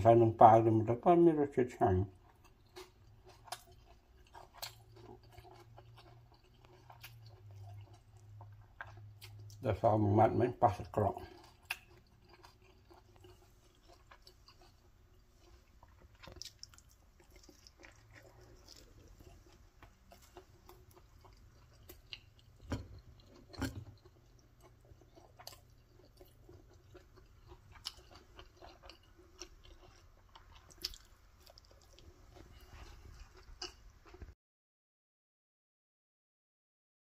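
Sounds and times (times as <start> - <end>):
person chewing food: 2.1 - 34.4.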